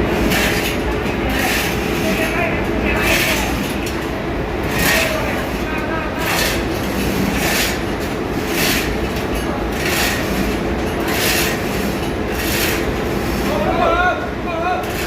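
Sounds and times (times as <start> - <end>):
engine-room machinery noise: 0.0 - 15.0.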